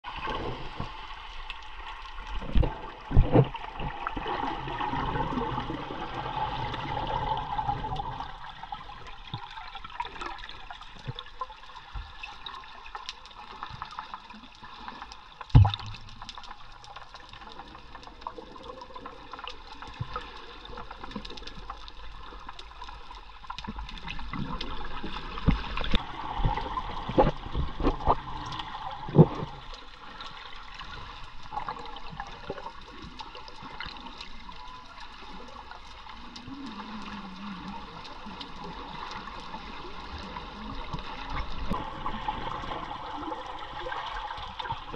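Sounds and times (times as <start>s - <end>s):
muffled underwater water rush: 0.0s - 44.9s.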